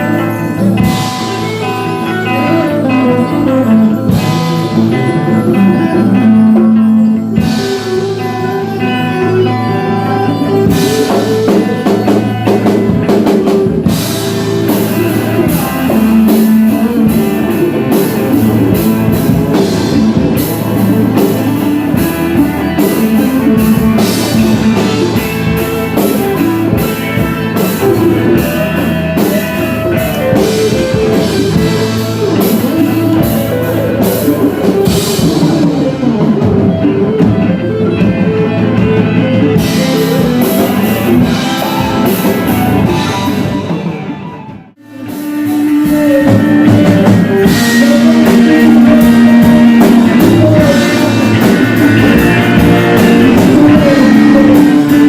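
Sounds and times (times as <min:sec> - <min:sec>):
band playing rock music: 0:00.0 - 0:55.0
drum kit beat: 0:00.0 - 0:55.0.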